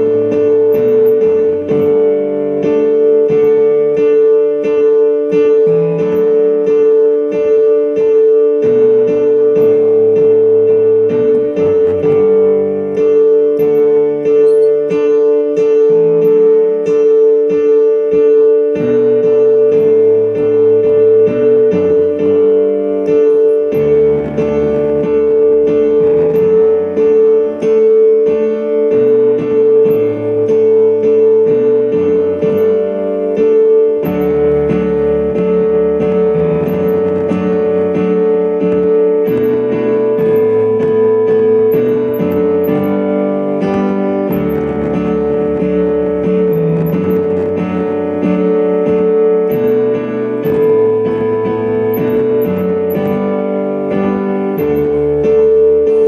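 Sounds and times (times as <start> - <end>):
instrumental keyboard music: 0.0 - 56.0.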